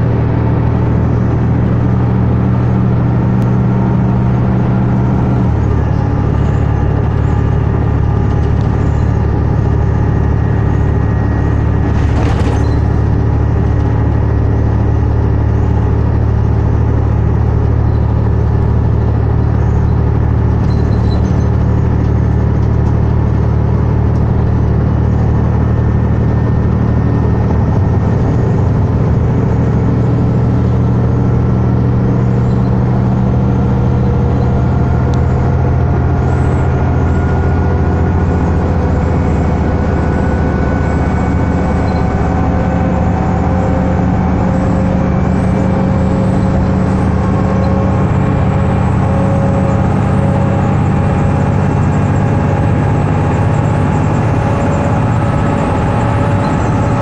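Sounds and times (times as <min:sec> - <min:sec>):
bus diesel engine running: 0:00.0 - 0:57.0
road and tyre noise: 0:00.0 - 0:57.0.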